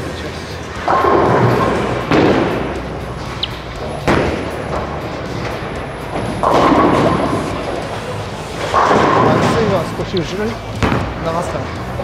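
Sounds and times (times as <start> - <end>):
bowling ball rolling: 0.8 - 11.2
bowling alley rumble: 0.8 - 12.0.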